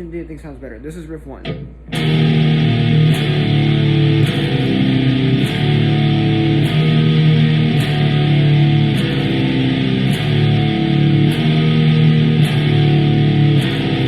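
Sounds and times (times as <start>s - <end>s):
electric guitar riff: 1.4s - 14.0s.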